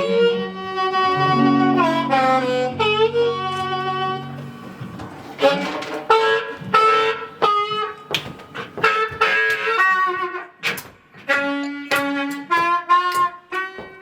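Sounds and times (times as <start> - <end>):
blues harmonica: 0.0 - 14.0.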